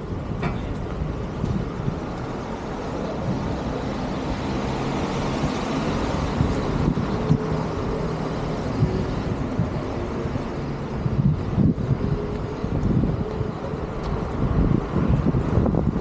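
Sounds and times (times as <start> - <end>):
low engine hum: 0.0 - 16.0
road traffic: 0.0 - 16.0.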